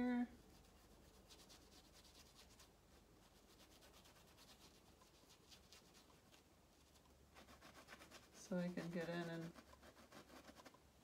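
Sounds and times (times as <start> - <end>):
paintbrush rubbing on canvas: 0.3 - 10.8.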